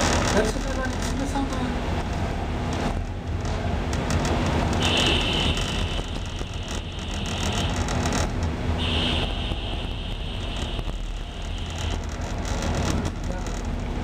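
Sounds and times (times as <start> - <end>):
ship engines rumbling: 0.0 - 14.0.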